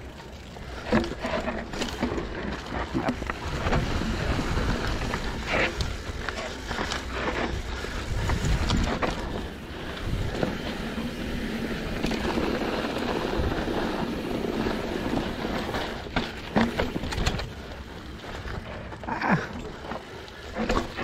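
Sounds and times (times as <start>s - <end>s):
bike knocks and rattles: 0.2s - 21.0s
tyre and wind rush: 0.8s - 21.0s.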